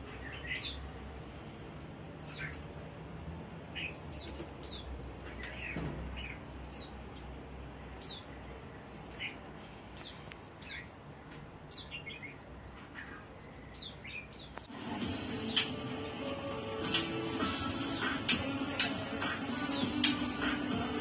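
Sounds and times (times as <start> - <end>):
bird chirping: 0.0 - 14.7, 16.9 - 20.8.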